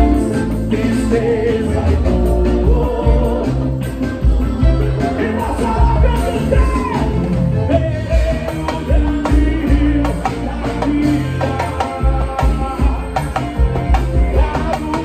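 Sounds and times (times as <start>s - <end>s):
drums: 0.0s - 15.0s
electric guitar: 0.0s - 15.0s
gospel band playing: 0.0s - 15.0s.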